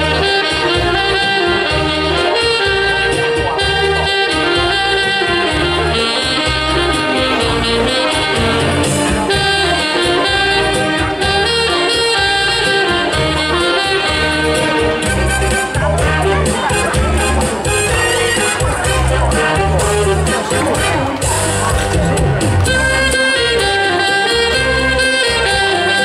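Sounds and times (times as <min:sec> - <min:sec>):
alto saxophones playing melody: 0:00.0 - 0:26.0
low bass notes: 0:00.0 - 0:26.0.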